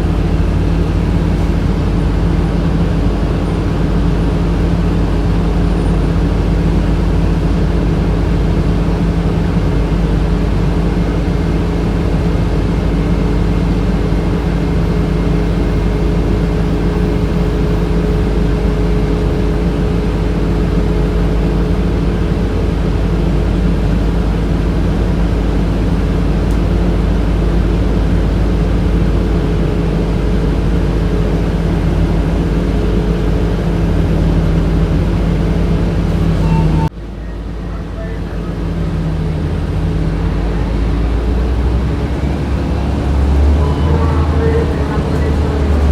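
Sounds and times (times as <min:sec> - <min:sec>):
bus air conditioning hum: 0:00.0 - 0:45.9
engine and road rumble: 0:00.0 - 0:45.9.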